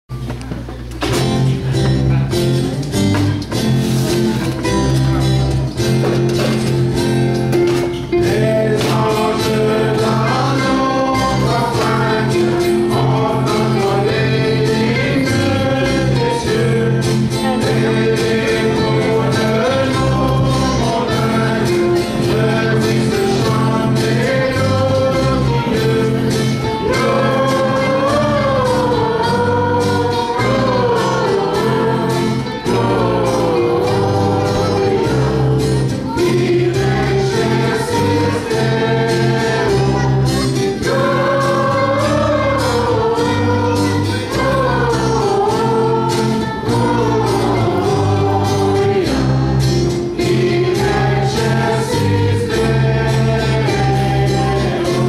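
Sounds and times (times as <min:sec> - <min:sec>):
strummed acoustic guitars: 0:00.1 - 0:55.0
mixed choir singing: 0:07.8 - 0:55.0.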